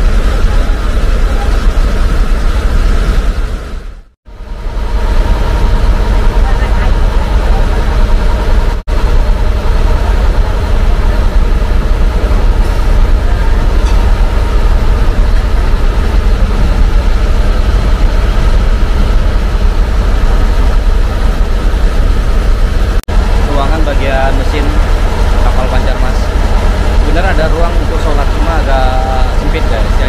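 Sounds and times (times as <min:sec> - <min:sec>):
boat engine low rumble: 0:00.0 - 0:30.0.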